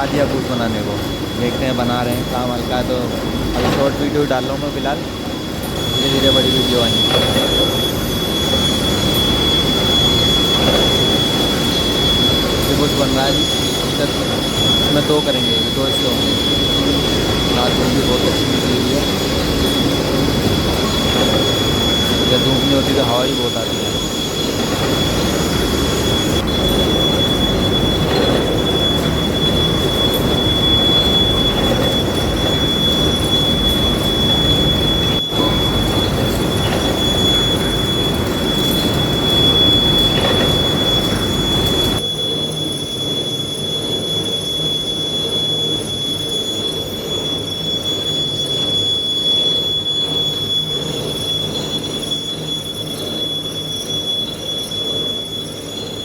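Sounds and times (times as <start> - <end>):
high whine: 0.0 - 56.0
lathe machine rumble: 0.0 - 56.0.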